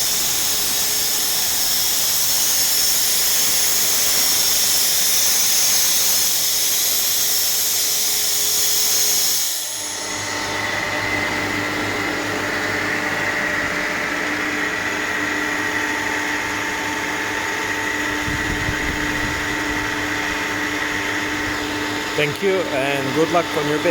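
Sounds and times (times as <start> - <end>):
air compressor hissing: 0.0 - 23.9
compressor humming and whining: 0.0 - 23.9.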